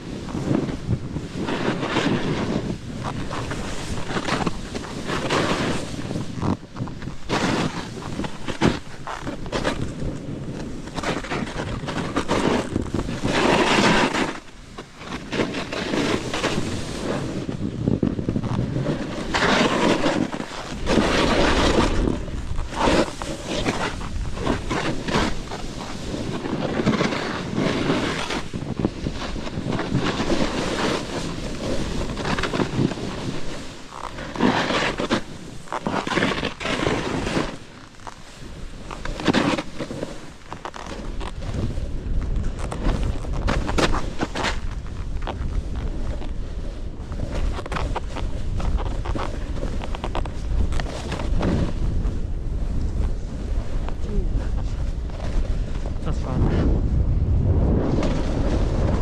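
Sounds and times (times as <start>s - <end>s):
snowboard scraping over packed snow: 0.0s - 59.0s
wind buffeting microphone: 0.0s - 59.0s.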